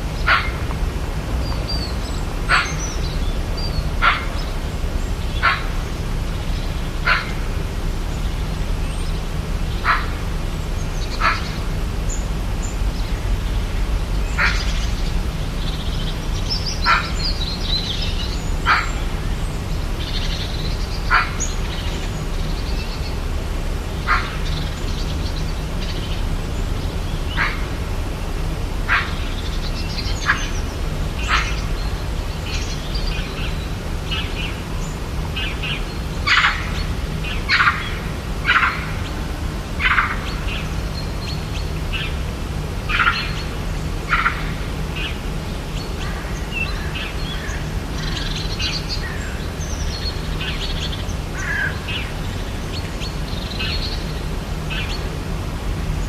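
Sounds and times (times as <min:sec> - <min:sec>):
forest birds calling: 0:00.0 - 0:56.0
steady low rumble: 0:00.0 - 0:56.0.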